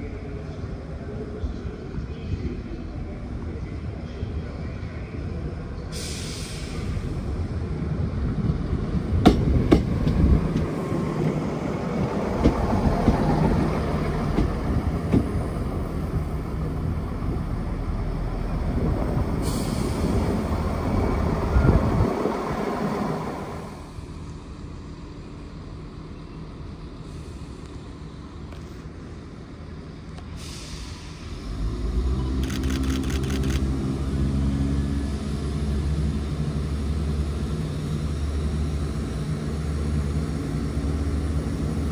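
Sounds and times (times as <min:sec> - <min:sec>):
train engines and wheels rumbling: 0:00.0 - 0:41.9.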